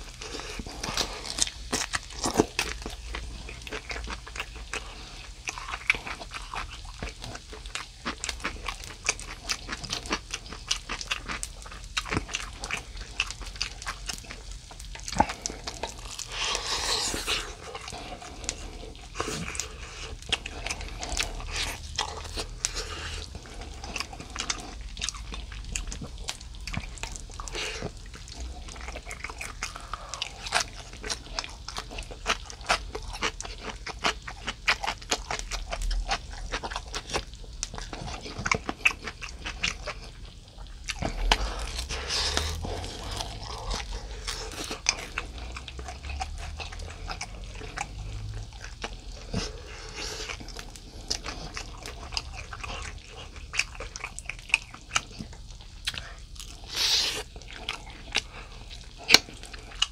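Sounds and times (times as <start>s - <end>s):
person chewing and eating: 0.0s - 59.9s.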